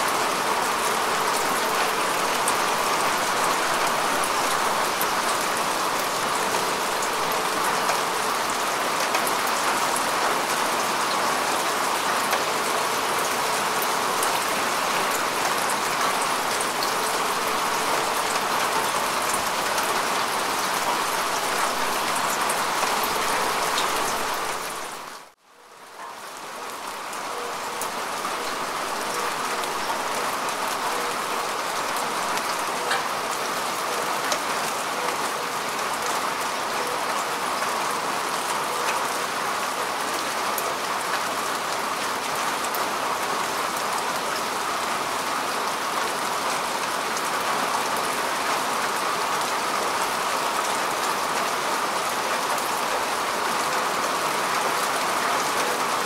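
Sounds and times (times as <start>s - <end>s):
rain falling on grass: 0.0s - 56.0s.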